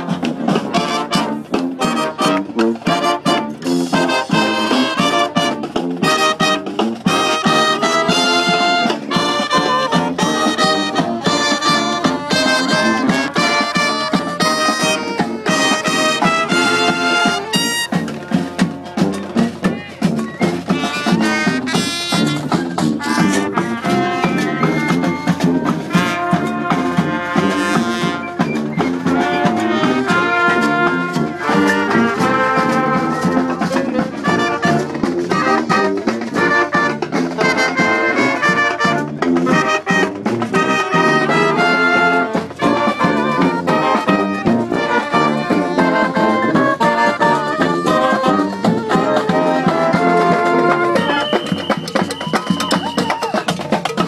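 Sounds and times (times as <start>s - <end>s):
brass horns playing a tune: 0.0s - 19.7s, 20.4s - 52.5s
drums: 0.0s - 54.0s.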